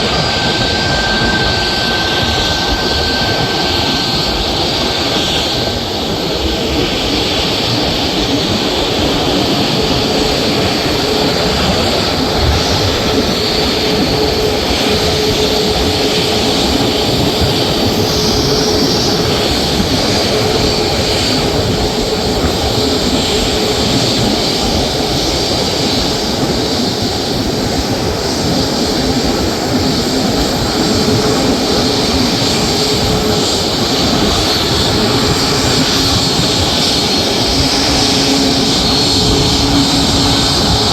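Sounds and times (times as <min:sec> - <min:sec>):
aircraft engines running: 0:00.0 - 0:40.9.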